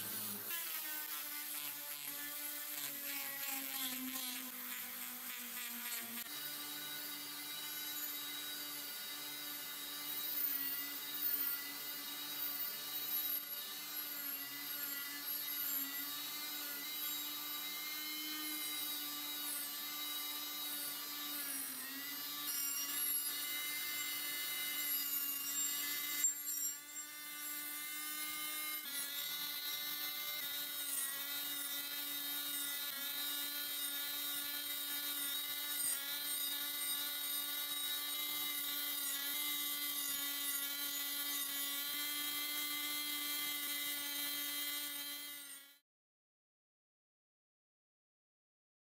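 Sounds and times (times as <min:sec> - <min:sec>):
rotary tool grinding metal: 0:00.0 - 0:45.8.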